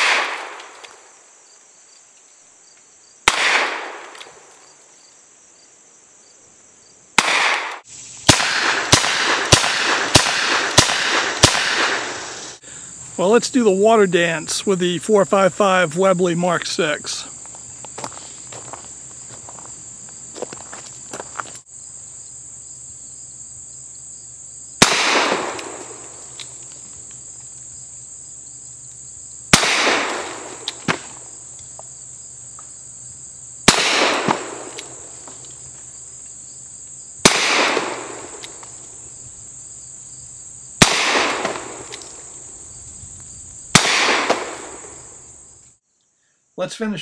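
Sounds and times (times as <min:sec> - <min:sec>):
insects buzzing: 0:00.0 - 0:46.6.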